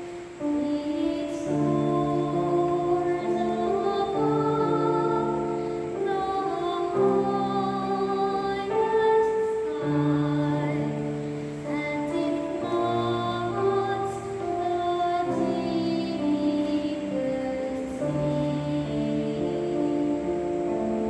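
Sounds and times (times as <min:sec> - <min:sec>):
long held chords: 0:00.0 - 0:21.0
woman singing slow song: 0:00.0 - 0:21.0.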